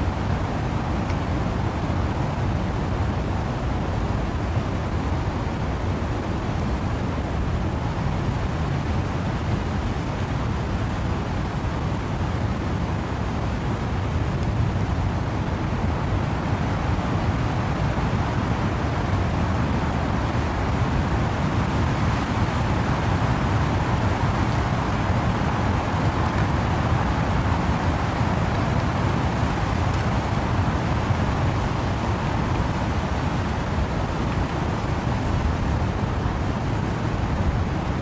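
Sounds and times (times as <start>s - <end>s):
wind and rain in trees: 0.0s - 38.0s.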